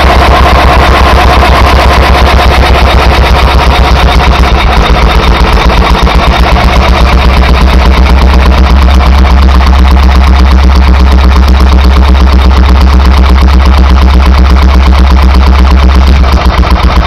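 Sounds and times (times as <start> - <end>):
stationary engine running: 0.0 - 17.0.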